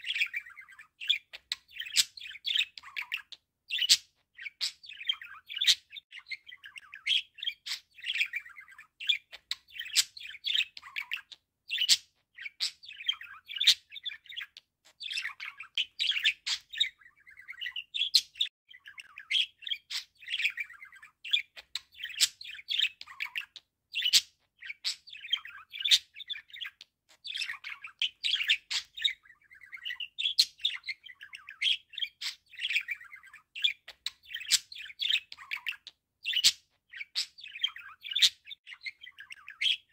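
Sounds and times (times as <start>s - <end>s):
budgerigar warbling and chattering: 0.0s - 39.9s.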